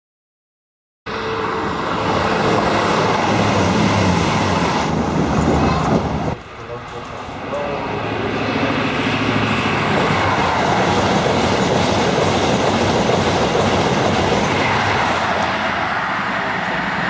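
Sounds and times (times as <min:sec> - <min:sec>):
train passing at speed: 0:01.1 - 0:17.0.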